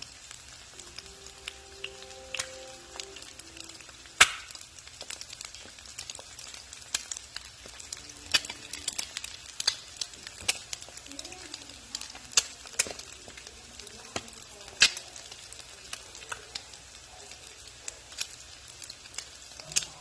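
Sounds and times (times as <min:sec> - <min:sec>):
eggs sizzling in a pan: 0:00.0 - 0:20.0.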